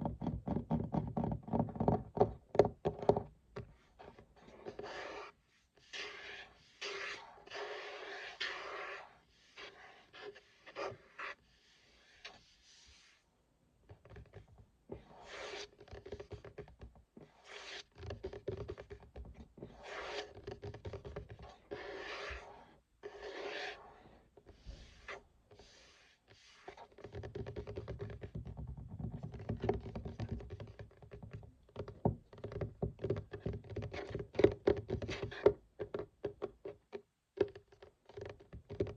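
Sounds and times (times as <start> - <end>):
scratching on a desk: 3.0 - 13.3, 13.9 - 35.6.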